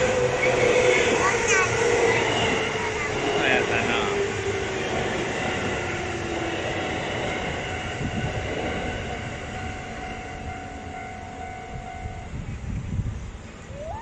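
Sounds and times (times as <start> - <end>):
electric train rolling past: 0.0 - 14.0.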